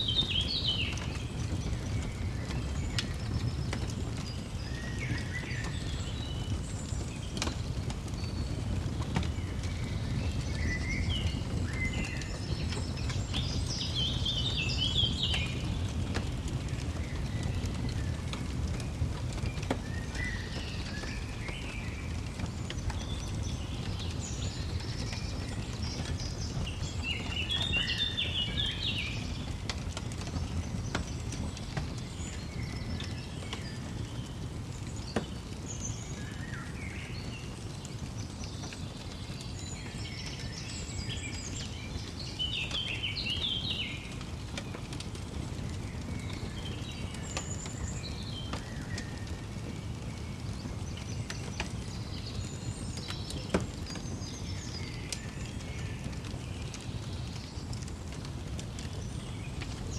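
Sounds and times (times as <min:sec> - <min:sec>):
songbirds chirping and singing: 0:00.0 - 0:59.9
wood fire crackling: 0:00.0 - 0:59.9.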